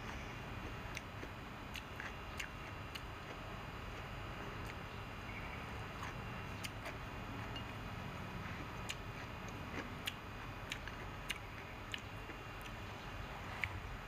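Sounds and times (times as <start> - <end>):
steady low hum: 0.0 - 14.0
chewing: 0.1 - 4.8, 5.9 - 7.8, 8.4 - 13.8.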